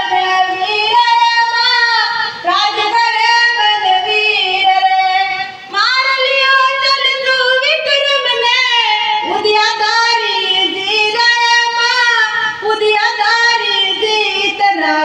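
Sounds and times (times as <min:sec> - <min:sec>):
girl singing into microphone: 0:00.0 - 0:15.0.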